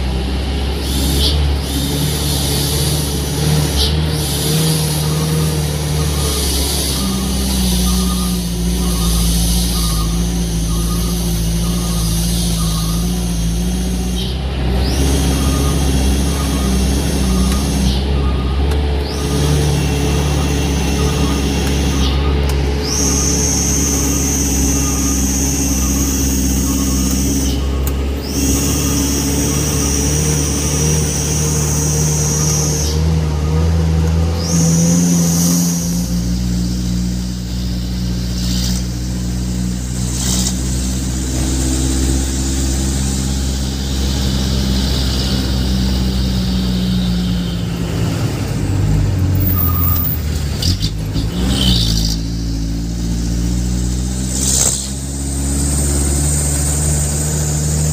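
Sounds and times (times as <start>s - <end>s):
high steady whine: 0.0s - 50.6s
truck engine running: 0.0s - 57.9s.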